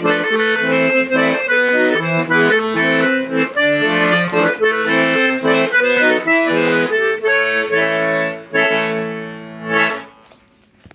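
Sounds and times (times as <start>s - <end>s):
accordion playing a tune: 0.0s - 10.6s.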